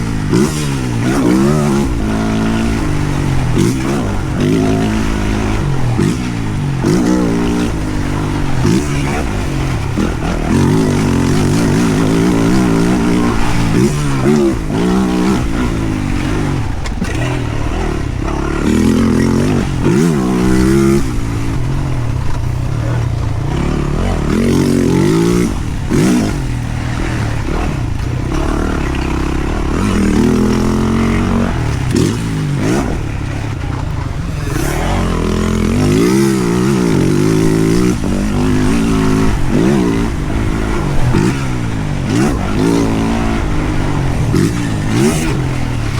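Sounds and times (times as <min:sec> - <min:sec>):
motorbike engine revving: 0:00.0 - 0:45.9.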